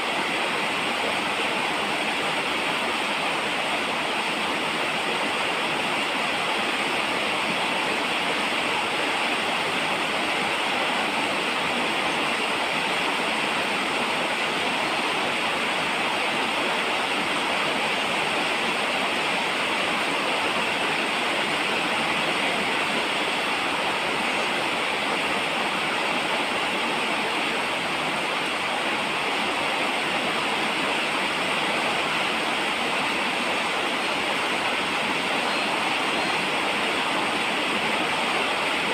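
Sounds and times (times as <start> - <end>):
steady falling rain: 0.0 - 38.9.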